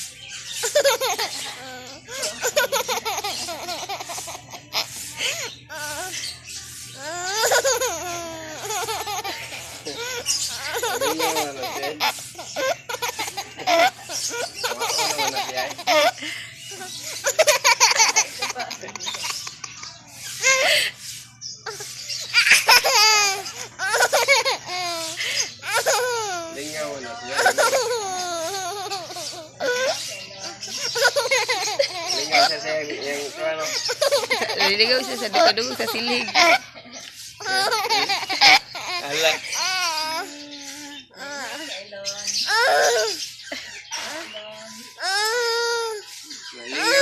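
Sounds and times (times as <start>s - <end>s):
child laughing and squealing: 0.5s - 21.0s, 21.6s - 36.7s, 37.4s - 41.7s, 42.5s - 43.3s, 45.0s - 46.1s, 46.7s - 47.0s
baby giggling: 0.6s - 6.2s, 7.0s - 21.0s, 21.6s - 36.8s, 37.4s - 41.6s, 42.5s - 43.2s, 46.7s - 47.0s.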